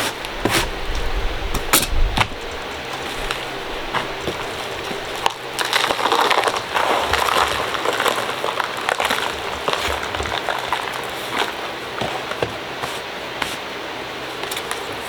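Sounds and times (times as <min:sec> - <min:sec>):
dry clay crunching and crackling: 0:00.0 - 0:15.0.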